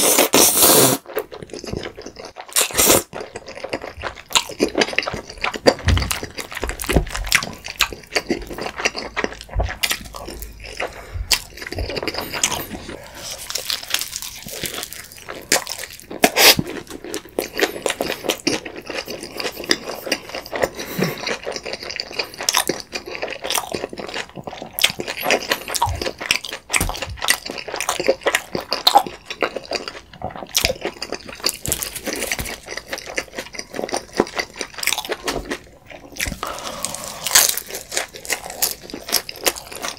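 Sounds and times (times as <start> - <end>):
wet chewing sounds: 0.0 - 39.9
pizza crust crunching: 1.2 - 39.9.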